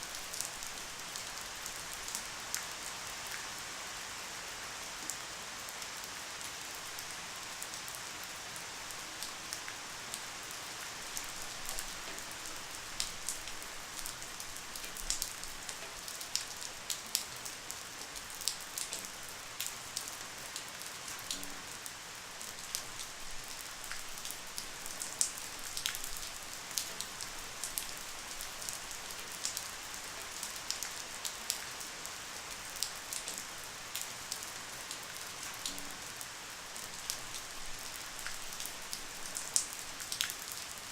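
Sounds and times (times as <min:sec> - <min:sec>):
raindrops ticking on a surface: 0:00.0 - 0:03.6, 0:04.8 - 0:40.9
light rain hissing: 0:00.0 - 0:40.9.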